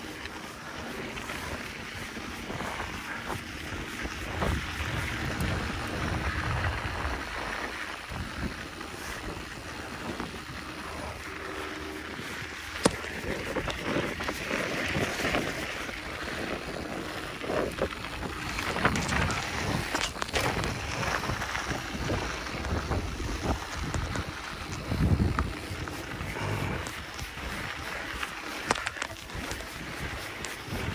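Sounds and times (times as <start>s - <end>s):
bike clicks and rattles: 0.0s - 30.9s
mountain bike rolling on dirt: 0.0s - 30.9s
wind rushing over microphone: 0.7s - 30.9s.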